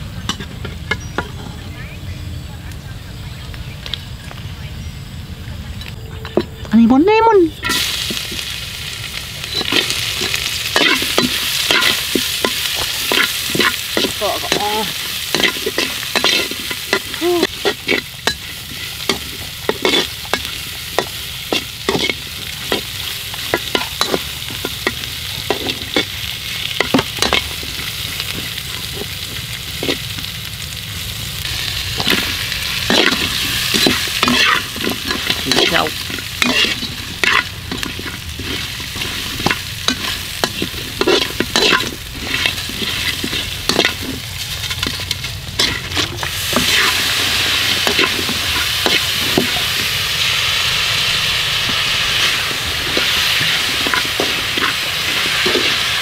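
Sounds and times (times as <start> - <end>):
metal spoon scraping a wok: 0.2 - 1.6, 7.6 - 8.5, 9.4 - 30.1, 31.5 - 56.0
aromatics sizzling in hot oil: 6.6 - 56.0.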